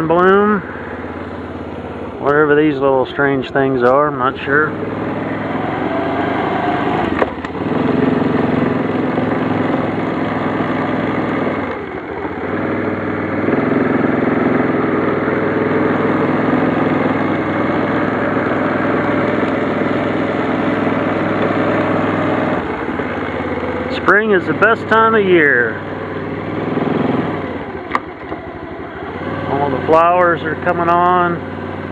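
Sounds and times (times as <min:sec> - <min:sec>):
quad bike engine running: 0:00.0 - 0:31.9.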